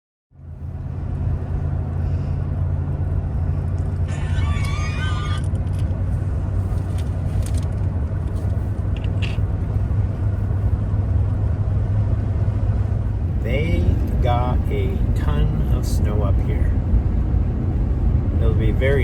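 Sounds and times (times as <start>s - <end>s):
engine and road rumble: 0.3s - 19.0s.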